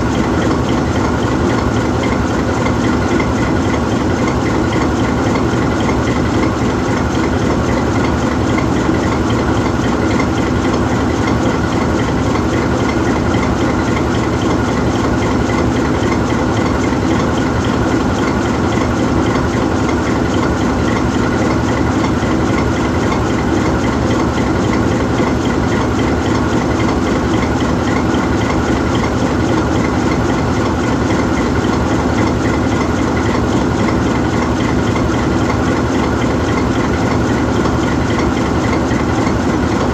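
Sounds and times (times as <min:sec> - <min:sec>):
locomotive diesel engine idling: 0:00.0 - 0:39.9.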